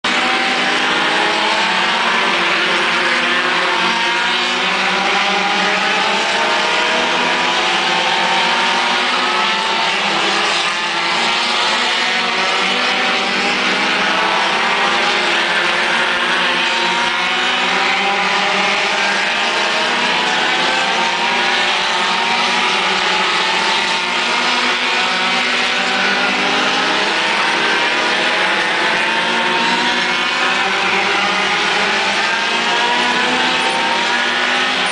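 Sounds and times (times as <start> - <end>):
race car engines at high revs: 0.0 - 34.9.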